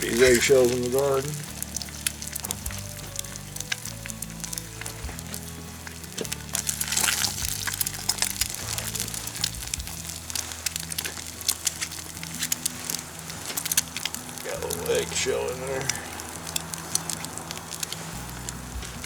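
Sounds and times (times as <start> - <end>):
background music: 0.0 - 19.0
egg sizzling in a pan: 0.0 - 19.0.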